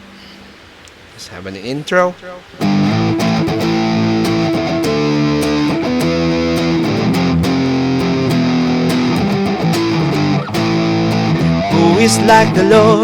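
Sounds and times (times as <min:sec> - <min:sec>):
distorted guitar strumming chords: 0:02.6 - 0:13.0.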